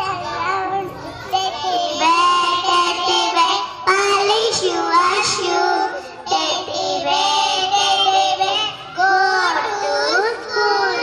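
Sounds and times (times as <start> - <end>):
small children singing: 0.0 - 11.0.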